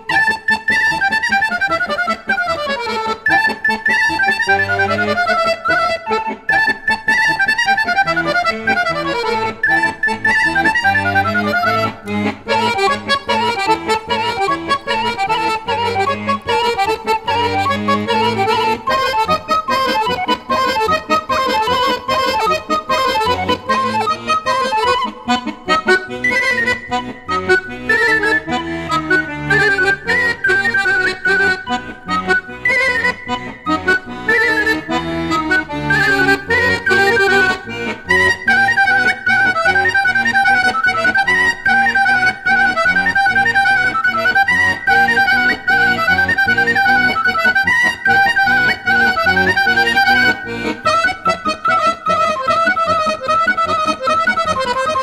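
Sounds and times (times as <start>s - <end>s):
accordion: 0.0s - 55.0s.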